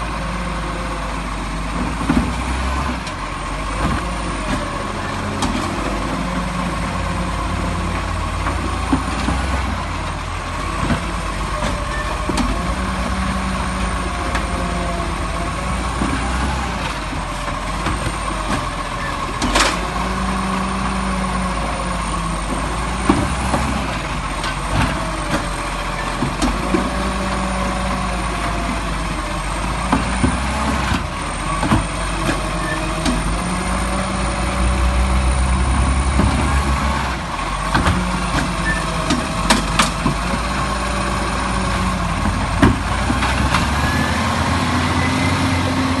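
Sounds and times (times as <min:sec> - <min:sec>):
garbage truck engine rumble: 0:00.0 - 0:46.0.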